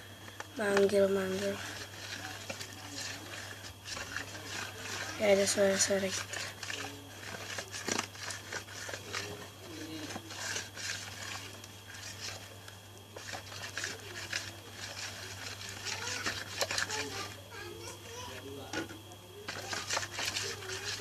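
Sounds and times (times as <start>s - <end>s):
steady low hum: 0.0s - 21.0s
stirrer scraping through slime: 0.3s - 21.0s.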